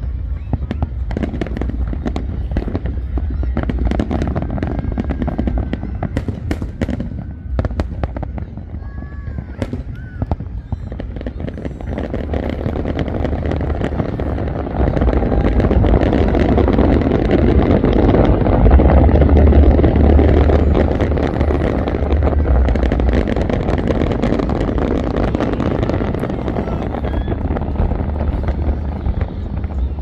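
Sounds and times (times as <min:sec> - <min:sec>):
fireworks crackling pops: 0:00.0 - 0:30.0
fireworks booms: 0:00.1 - 0:30.0.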